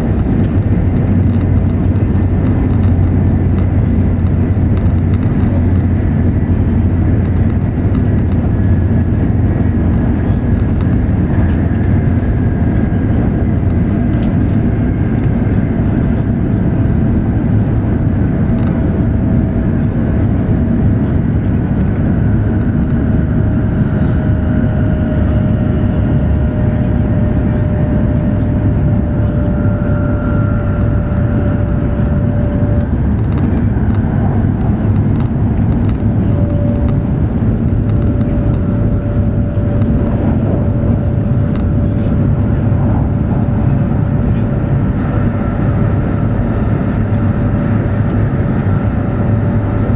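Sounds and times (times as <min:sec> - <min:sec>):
faint whine: 0:00.0 - 0:49.9
train low rumble: 0:00.0 - 0:49.9.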